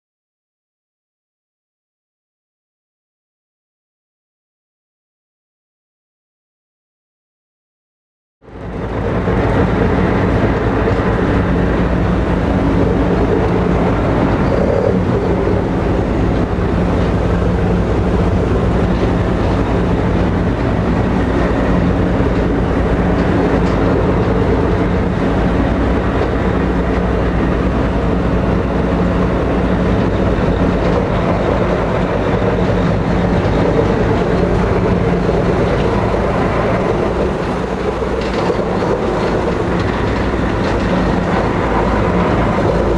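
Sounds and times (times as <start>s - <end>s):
ferry engines droning: 8.4s - 42.9s
rushing water noise: 8.5s - 42.9s.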